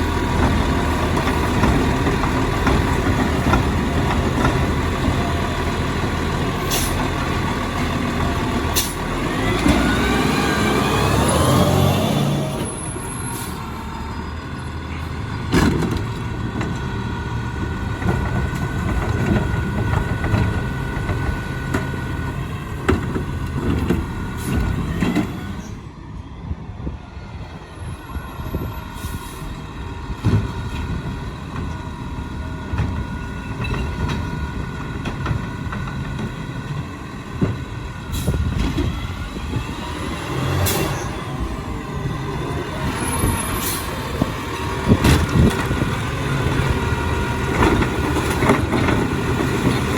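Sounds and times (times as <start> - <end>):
diesel engine running: 0.0 - 25.8, 28.2 - 49.9.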